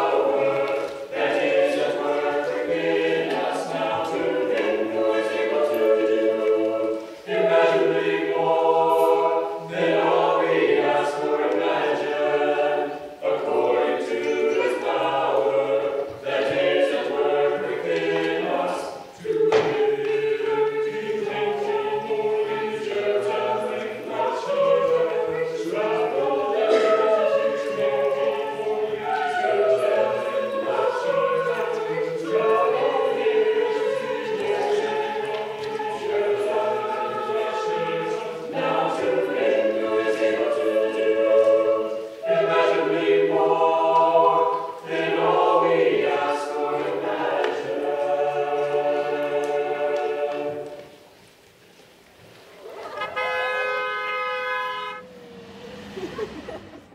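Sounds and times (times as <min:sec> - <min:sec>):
choir singing in harmony: 0:00.0 - 0:51.0, 0:52.5 - 0:56.9.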